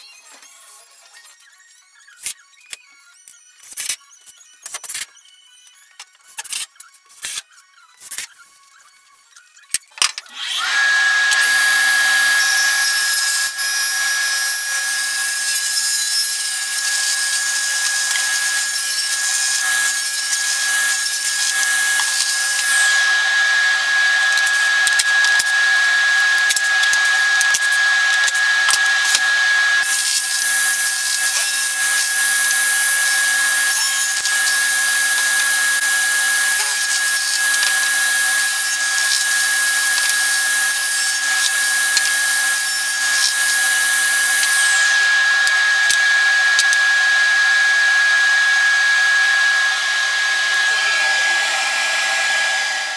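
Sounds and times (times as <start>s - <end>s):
table saw running: 10.2s - 52.9s.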